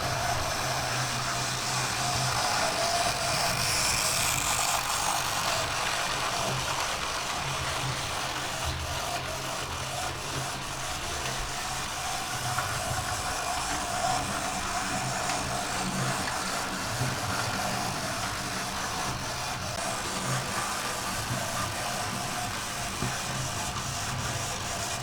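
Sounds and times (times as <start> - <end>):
model train motor hum: 0.0 - 25.0
wheel and track noise: 0.0 - 25.0.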